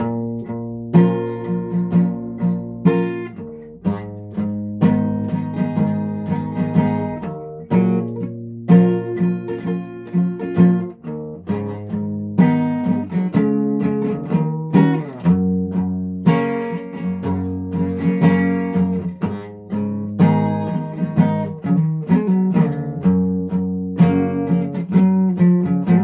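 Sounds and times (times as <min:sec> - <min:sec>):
guitar strumming: 0:00.0 - 0:26.0.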